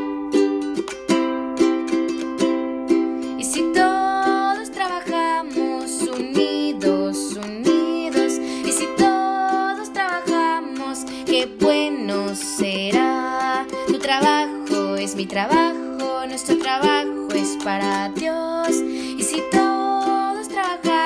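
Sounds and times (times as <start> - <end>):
person singing melody: 0.0 - 21.0
strummed string instrument: 0.0 - 21.0.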